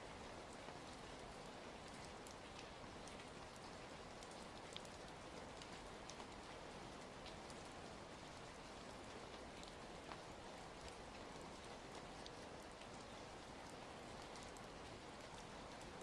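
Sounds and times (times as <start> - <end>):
crackling fire: 0.0 - 16.0
rain falling: 0.0 - 16.0.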